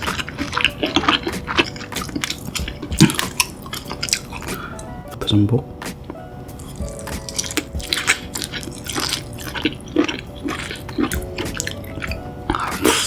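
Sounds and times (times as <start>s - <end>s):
wet chewing with smacks: 0.0s - 4.9s, 6.0s - 13.0s.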